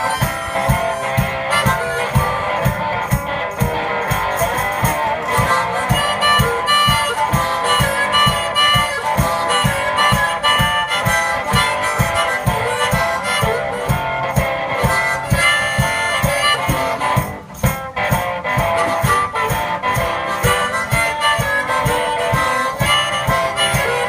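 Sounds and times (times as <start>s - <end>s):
harmonica: 0.0s - 24.0s
low drum beat: 0.0s - 24.0s
strummed guitar: 0.0s - 24.0s.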